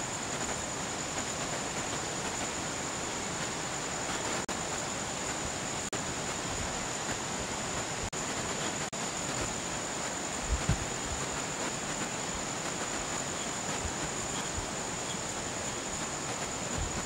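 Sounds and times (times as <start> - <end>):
steady rushing noise: 0.0 - 17.0
thin high whine: 0.0 - 17.0.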